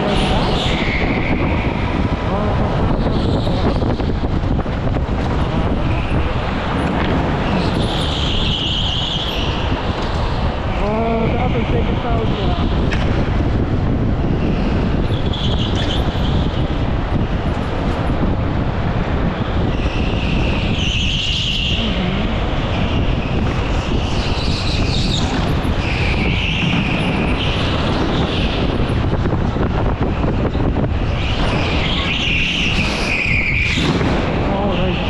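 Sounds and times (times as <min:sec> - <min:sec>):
go-kart rumble: 0:00.0 - 0:35.0
wind on microphone: 0:00.0 - 0:35.0.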